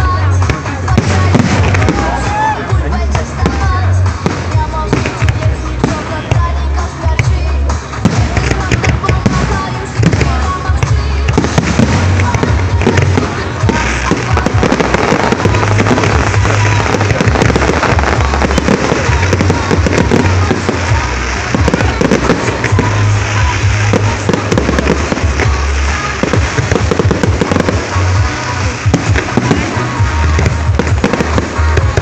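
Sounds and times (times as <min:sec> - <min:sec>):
fireworks bangs and crackles: 0:00.0 - 0:32.0
loud bass-heavy music: 0:00.0 - 0:32.0.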